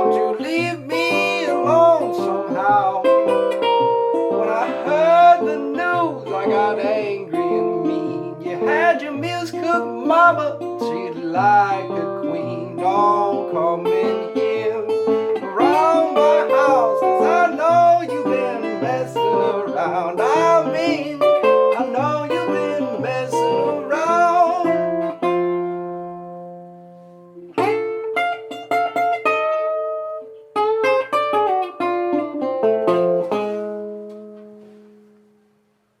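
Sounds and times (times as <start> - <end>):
acoustic guitar rag tune: 0.0 - 36.0.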